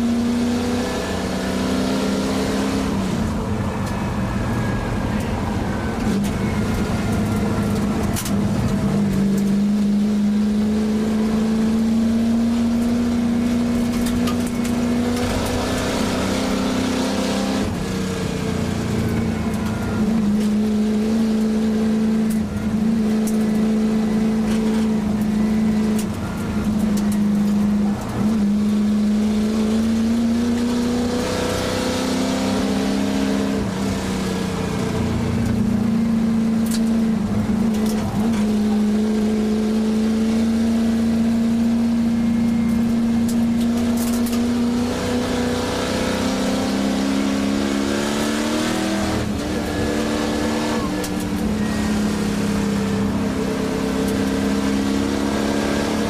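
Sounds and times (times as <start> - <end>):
car engine racing: 0.0 - 56.0.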